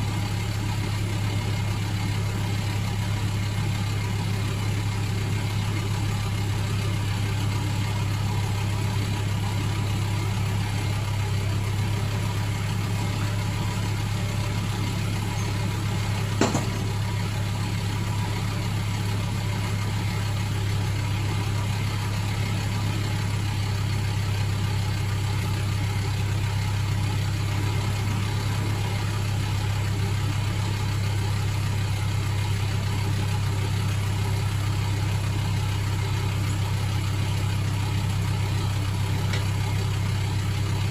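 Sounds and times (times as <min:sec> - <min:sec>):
lorry engine idling: 0:00.0 - 0:40.9.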